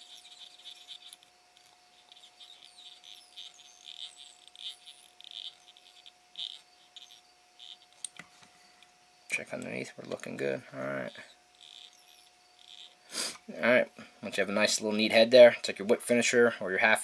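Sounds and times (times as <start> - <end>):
faint steady hum: 0.0 - 17.0
insects chirping: 0.0 - 17.0.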